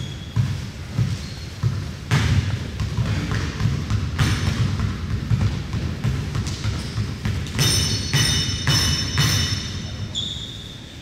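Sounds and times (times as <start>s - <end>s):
ball and feet thudding: 0.0s - 9.7s.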